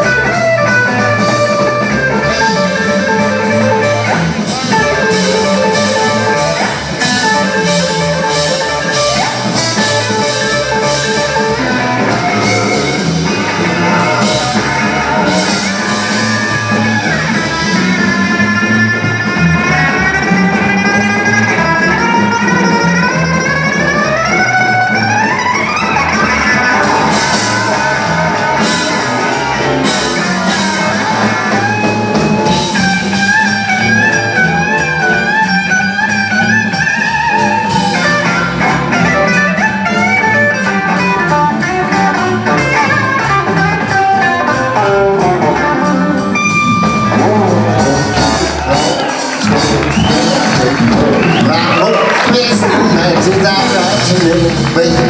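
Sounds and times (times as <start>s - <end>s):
drums: 0.0s - 55.0s
electric guitar lead: 0.0s - 55.0s.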